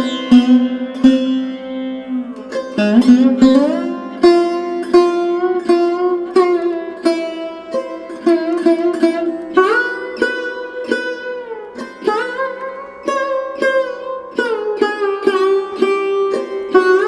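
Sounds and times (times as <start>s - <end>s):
plucked string instrument melody: 0.0s - 17.0s.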